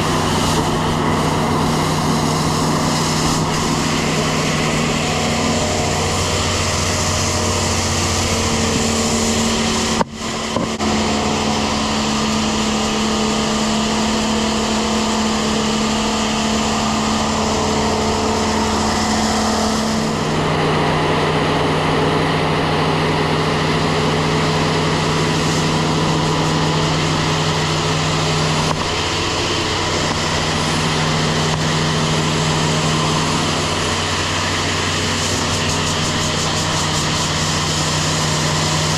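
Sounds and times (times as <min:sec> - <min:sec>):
rushing hiss of air: 0:00.0 - 0:20.7, 0:23.5 - 0:38.9
engine drone: 0:00.0 - 0:38.9.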